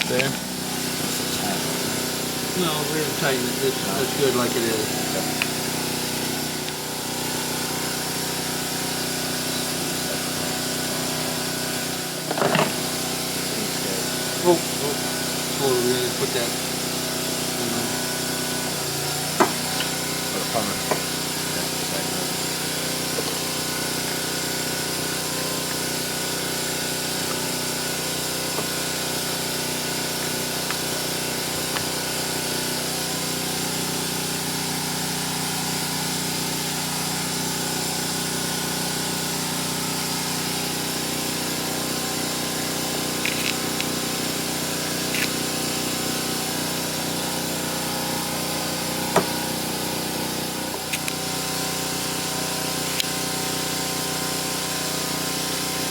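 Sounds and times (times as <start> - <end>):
machine hum with hiss: 0.0 - 55.9.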